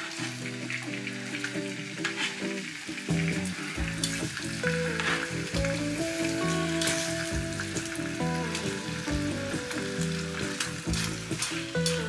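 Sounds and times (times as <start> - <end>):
background music with melody: 0.0 - 12.0
chicken sizzling in a pan: 0.0 - 12.0.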